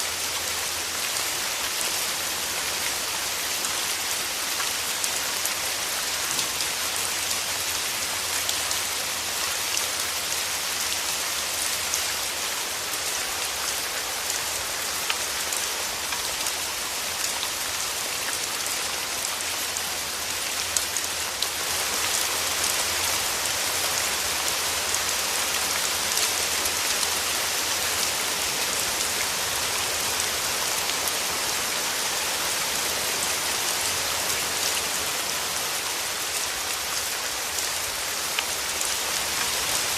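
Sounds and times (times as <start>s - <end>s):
rain drops ticking on surfaces: 0.0s - 39.9s.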